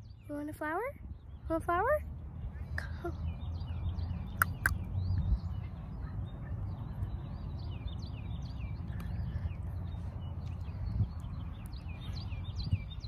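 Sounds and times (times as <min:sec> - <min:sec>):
birds chirping: 0:00.0 - 0:13.0
steady low rumble: 0:00.9 - 0:13.0.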